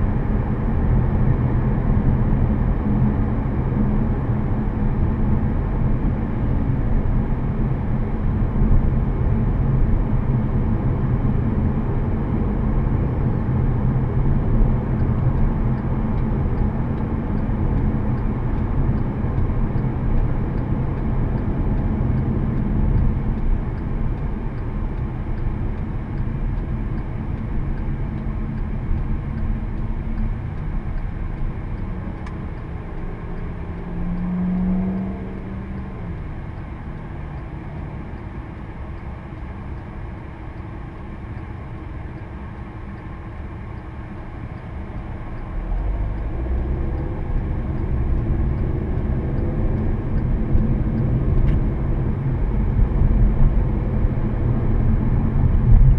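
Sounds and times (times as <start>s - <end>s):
car engine hum: 0.0s - 55.9s.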